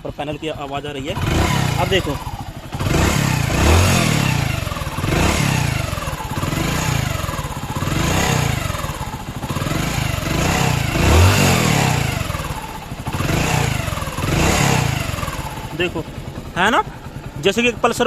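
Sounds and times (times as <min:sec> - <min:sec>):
motorcycle engine revving: 0:00.0 - 0:18.0
engine whining: 0:00.5 - 0:18.0.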